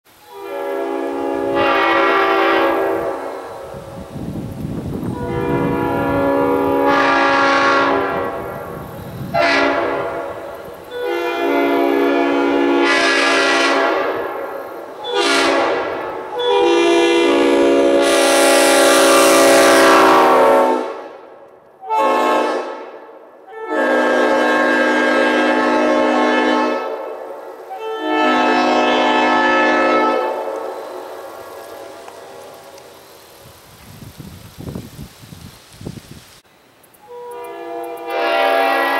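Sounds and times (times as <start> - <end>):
locomotive air horn blasts: 0.1 - 4.1, 5.0 - 32.5, 37.0 - 38.9.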